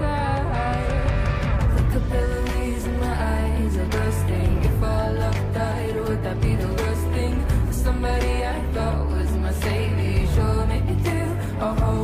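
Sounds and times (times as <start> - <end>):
music with heavy bass line: 0.0 - 12.0.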